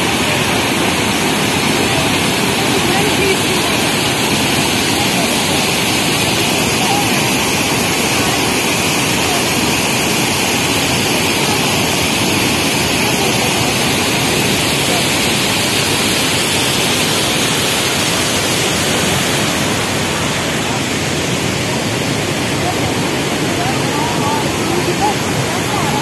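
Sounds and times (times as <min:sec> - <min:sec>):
waterfall rushing over rocks: 0:00.0 - 0:26.0.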